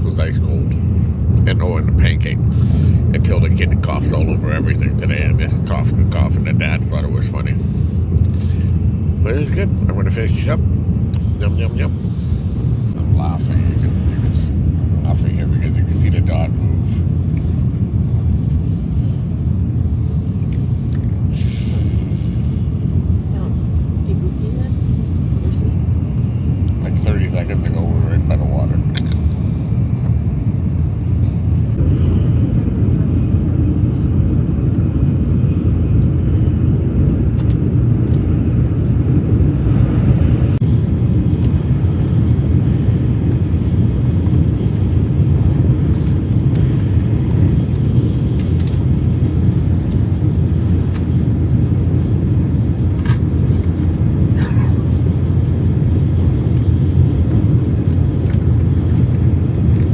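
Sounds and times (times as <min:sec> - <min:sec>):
train low rumble: 0:00.0 - 0:59.9.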